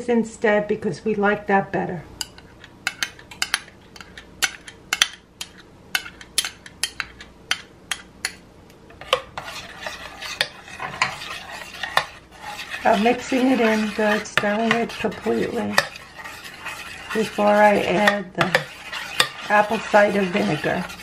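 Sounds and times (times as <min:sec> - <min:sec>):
spoon stirring in metal pan: 0:02.2 - 0:21.0.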